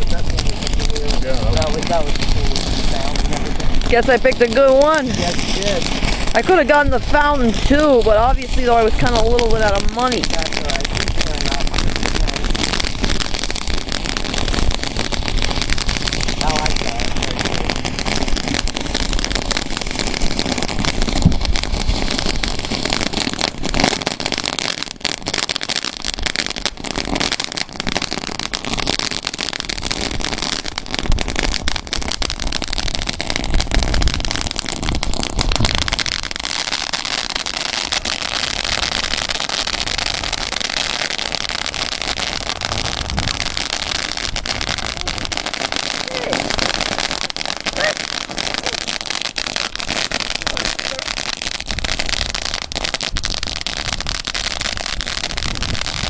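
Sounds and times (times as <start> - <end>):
ground firework crackling: 0.0 - 56.0.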